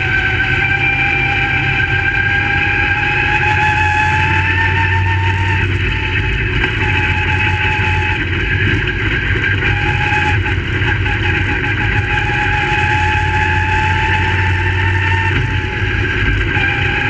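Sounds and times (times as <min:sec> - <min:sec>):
race car engines running: 0:00.0 - 0:17.0.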